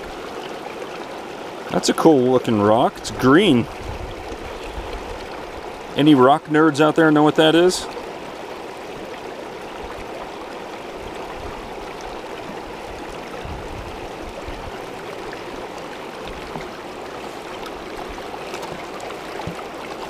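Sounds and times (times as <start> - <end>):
creek running over rocks: 0.0 - 20.0.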